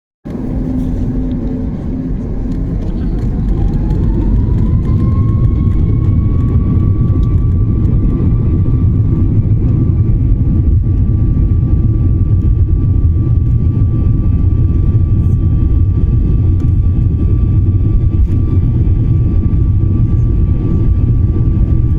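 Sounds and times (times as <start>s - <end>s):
jet engines rumbling in cabin: 0.3s - 21.9s.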